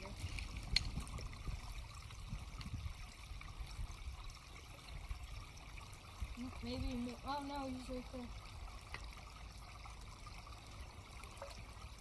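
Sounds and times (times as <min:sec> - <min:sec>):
creek trickling over rocks: 0:00.0 - 0:12.0.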